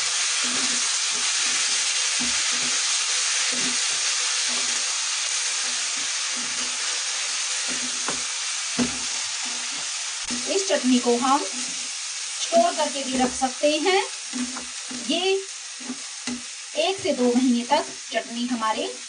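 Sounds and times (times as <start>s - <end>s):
spatula scraping a pan: 0.0s - 18.2s
chillies sizzling in oil: 0.0s - 19.0s.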